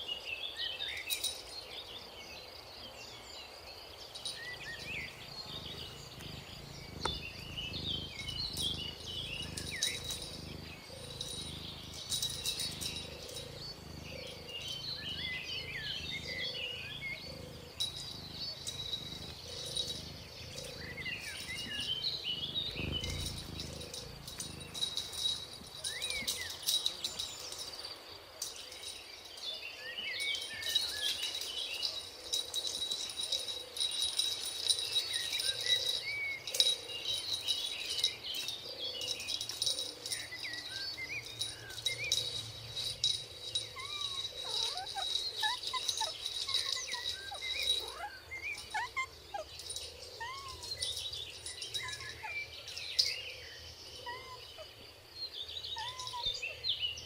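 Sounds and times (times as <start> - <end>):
high-pitched insect whine: 3.6 - 29.3, 30.2 - 53.2.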